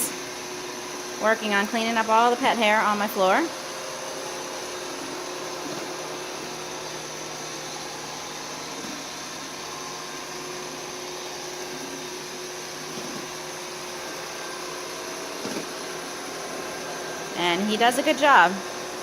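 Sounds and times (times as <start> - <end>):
robotic vacuum motor hum: 0.0 - 19.0.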